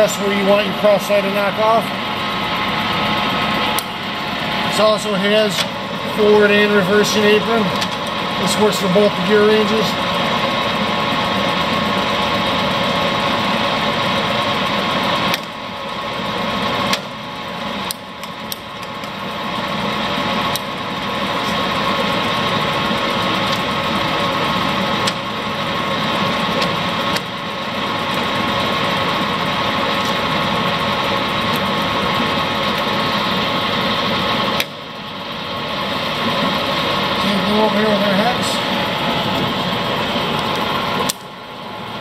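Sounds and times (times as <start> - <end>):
lathe running with whine: 0.0 - 42.0.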